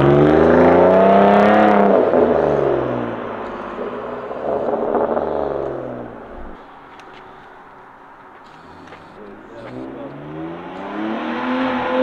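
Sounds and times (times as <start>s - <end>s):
car engine accelerating: 0.0s - 7.1s, 8.4s - 12.0s.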